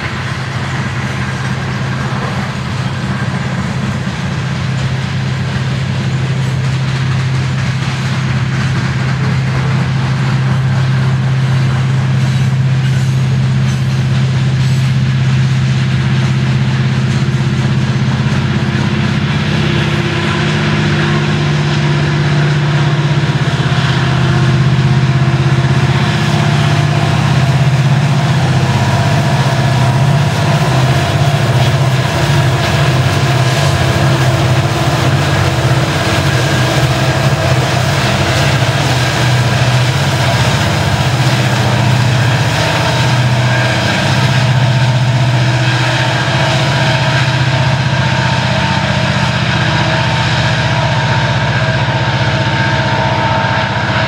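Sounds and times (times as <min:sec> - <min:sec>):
diesel locomotive engines droning: 0:00.0 - 0:54.0
steel wheels rumbling on rails: 0:00.0 - 0:54.0.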